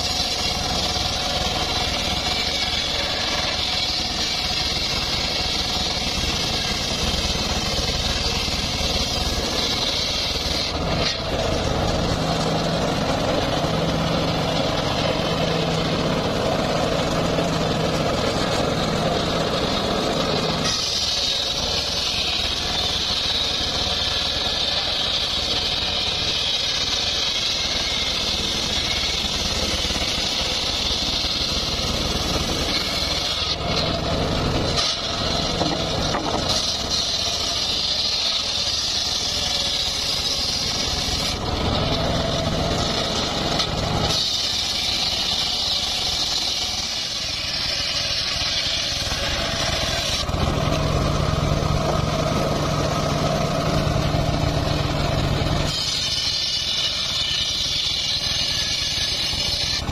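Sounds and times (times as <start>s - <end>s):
circular saw blade cutting wood: 0.0s - 59.9s
engine running: 0.0s - 59.9s.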